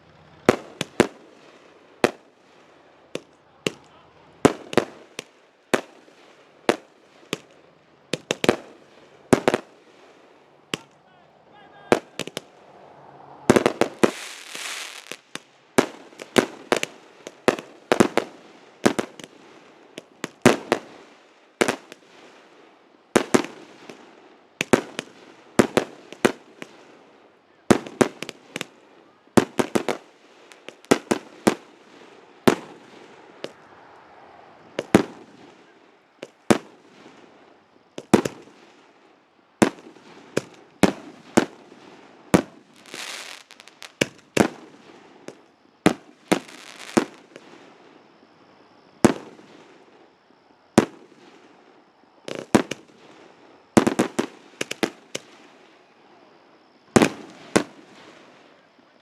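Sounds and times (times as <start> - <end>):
firework bangs: 0.0 - 47.9, 49.0 - 50.1, 50.7 - 51.5, 52.2 - 55.7, 56.9 - 58.7
crackling hiss of fireworks: 0.0 - 59.0.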